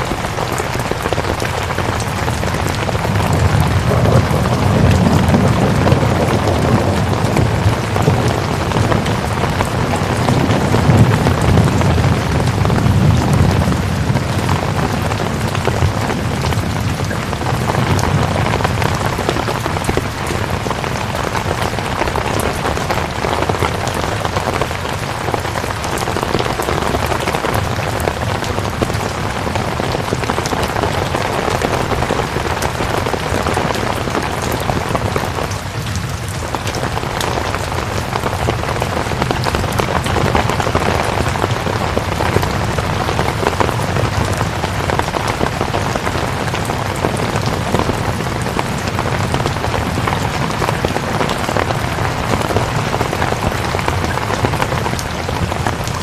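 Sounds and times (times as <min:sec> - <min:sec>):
raindrops ticking on a surface: 0:00.0 - 0:56.0
steady rain: 0:00.0 - 0:56.0.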